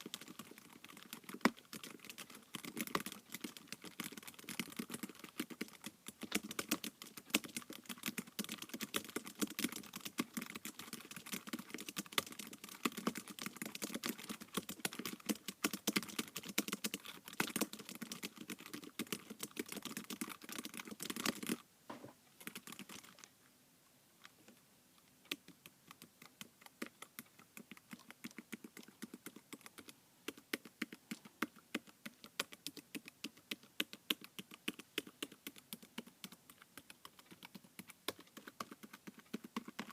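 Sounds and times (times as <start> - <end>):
typing on tablet keyboard: 0.0 - 21.6, 22.4 - 23.3, 25.2 - 39.9.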